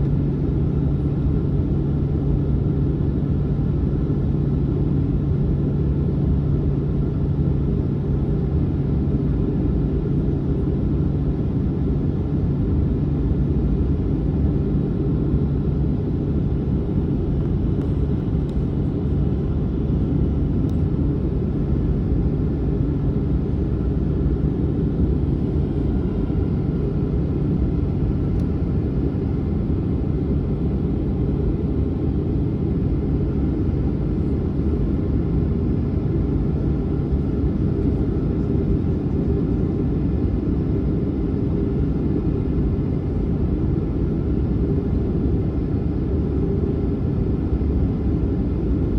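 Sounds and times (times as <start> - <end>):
jet airliner rumble: 0.0 - 48.9.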